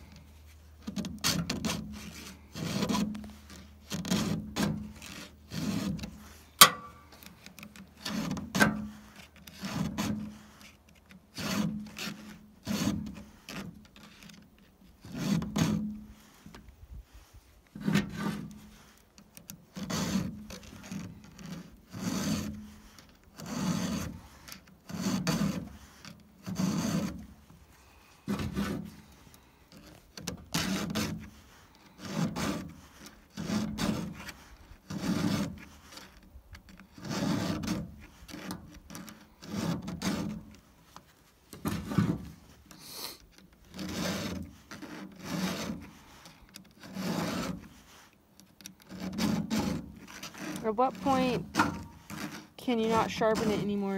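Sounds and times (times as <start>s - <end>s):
file rasping on saw chain: 0.9s - 7.1s, 8.0s - 14.4s, 15.0s - 15.9s, 19.7s - 27.3s, 28.3s - 40.6s, 43.7s - 53.9s.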